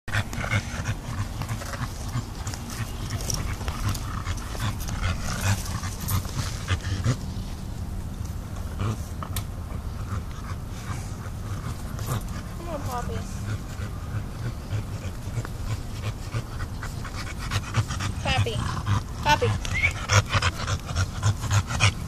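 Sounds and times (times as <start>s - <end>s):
dog panting: 0.1s - 7.7s, 8.5s - 22.0s.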